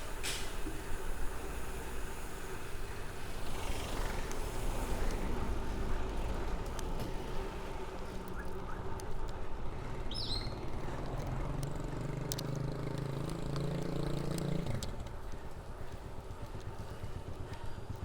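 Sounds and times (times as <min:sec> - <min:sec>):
city road traffic: 0:00.0 - 0:18.0
vehicle engine humming: 0:00.0 - 0:18.0.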